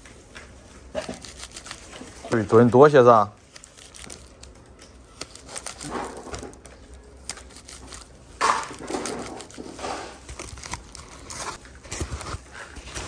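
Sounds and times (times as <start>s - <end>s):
packaging crinkling: 1.0s - 2.4s, 3.4s - 13.0s.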